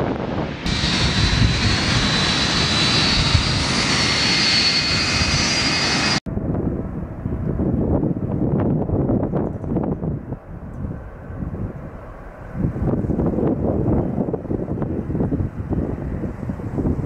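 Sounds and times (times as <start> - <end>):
jet engines whining and rumbling: 0.0 - 17.0
muffled jet rumble: 0.0 - 17.0.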